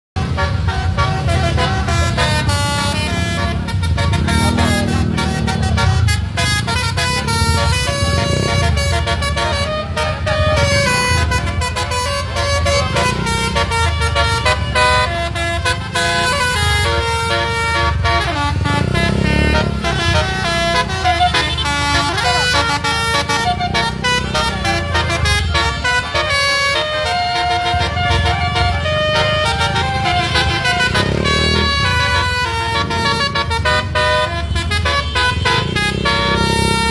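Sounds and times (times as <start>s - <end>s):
low engine rumble: 0.2s - 36.9s
musical air horn playing a tune: 0.2s - 36.9s.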